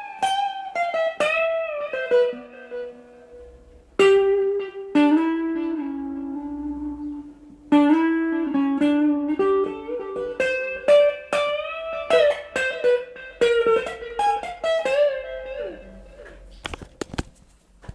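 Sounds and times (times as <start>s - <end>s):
guitar plucked melody: 0.0s - 17.3s.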